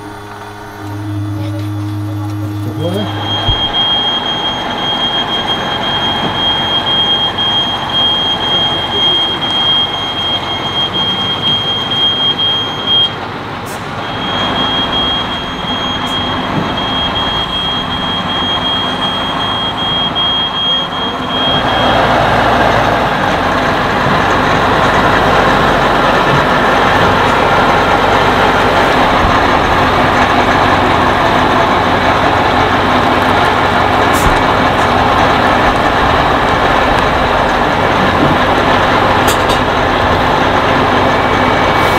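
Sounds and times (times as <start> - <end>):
steady high-pitched squeal: 0.0 - 13.2, 13.8 - 41.9
truck diesel engine under load: 0.0 - 41.9.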